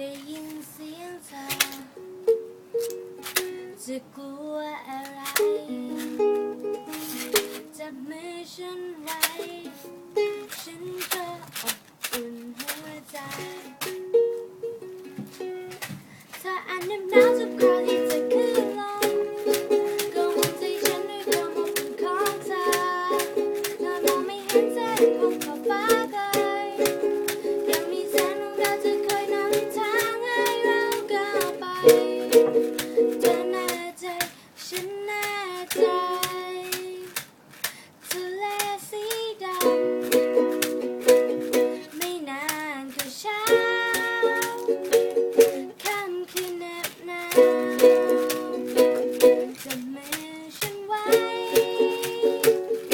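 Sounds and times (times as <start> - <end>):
strummed string instrument: 1.5 - 3.8, 5.2 - 7.9, 8.8 - 15.9, 16.6 - 52.9.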